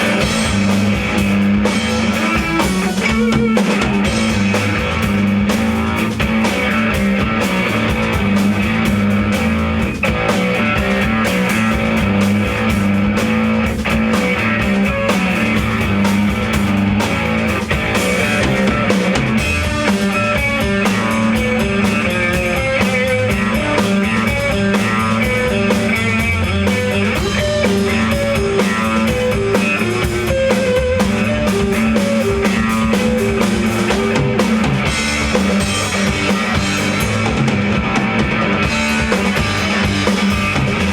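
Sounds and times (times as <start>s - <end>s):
bass drum: 0.0s - 40.9s
rock band playing: 0.0s - 40.9s.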